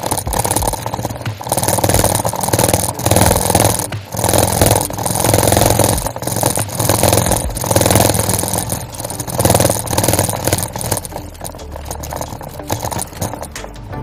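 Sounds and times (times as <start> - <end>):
bicycle rattling: 0.0 - 14.0
bicycle tyres drumming over pavers: 0.0 - 14.0.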